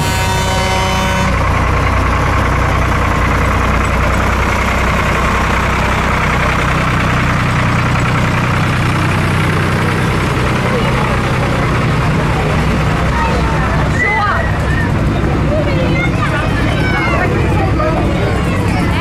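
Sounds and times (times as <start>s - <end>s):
large vehicle engine idling: 0.0s - 19.0s.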